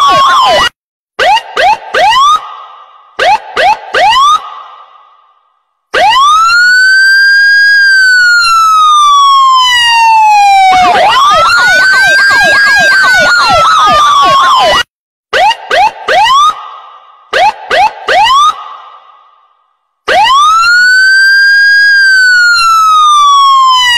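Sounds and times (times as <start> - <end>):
electronic siren wailing and yelping: 0.0 - 2.4, 3.2 - 4.4, 6.0 - 16.6, 17.3 - 18.6, 20.1 - 23.9.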